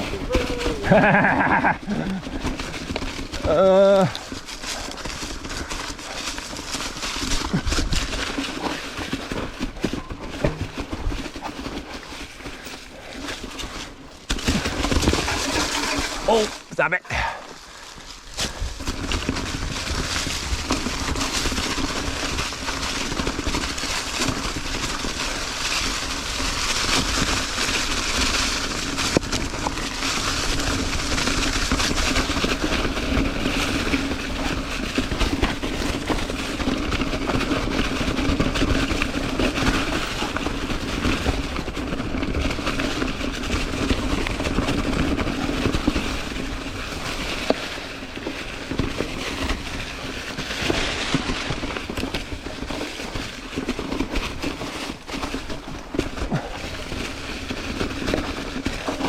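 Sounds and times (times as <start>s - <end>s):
tyres crunching over rock: 0.0s - 59.0s.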